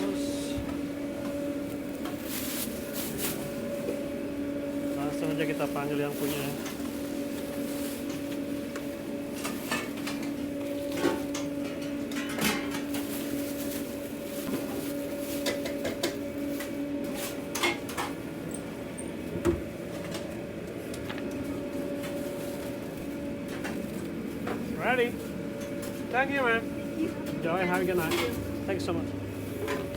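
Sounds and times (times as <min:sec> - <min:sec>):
steady low hum: 0:00.0 - 0:29.9
takeout containers and utensils clattering: 0:04.7 - 0:29.9.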